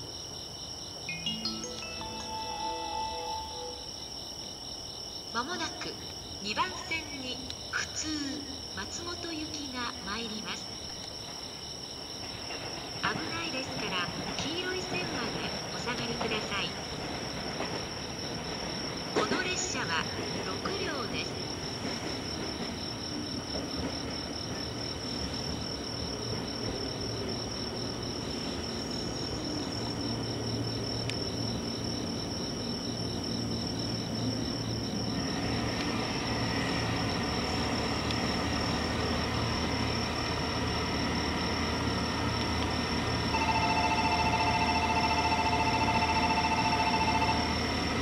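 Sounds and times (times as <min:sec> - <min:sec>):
electric train rumble: 0:00.0 - 0:48.0
insects chirping: 0:00.0 - 0:48.0.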